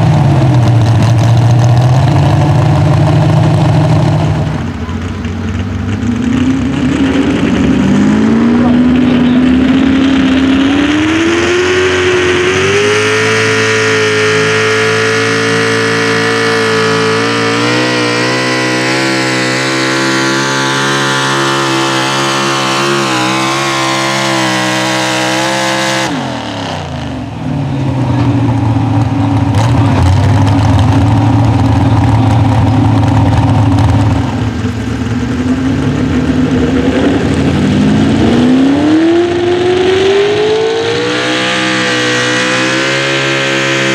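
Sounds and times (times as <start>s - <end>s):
engine revving up: 0.0s - 43.9s
lower engine sound: 0.0s - 43.9s
truck engine at full throttle: 0.0s - 43.9s.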